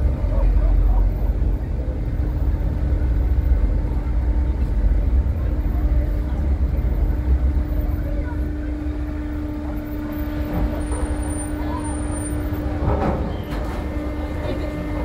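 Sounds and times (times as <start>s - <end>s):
faint voices: 0.0s - 15.0s
ship engines rumbling: 0.0s - 15.0s.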